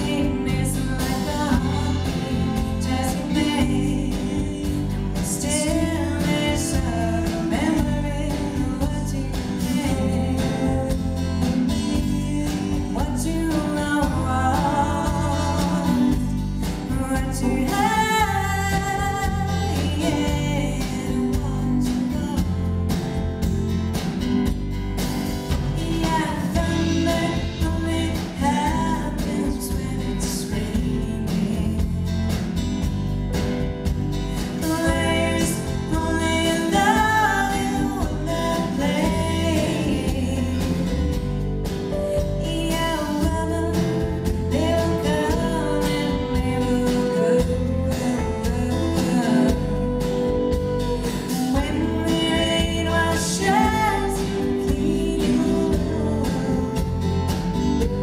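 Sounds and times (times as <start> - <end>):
woman singing into microphone: 0.0 - 23.7, 25.5 - 32.4, 34.3 - 58.0
live band playing: 0.0 - 58.0.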